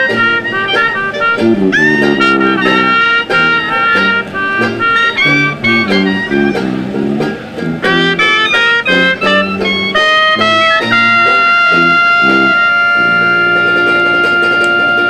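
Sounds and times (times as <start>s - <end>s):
brisk instrumental music: 0.0s - 15.0s.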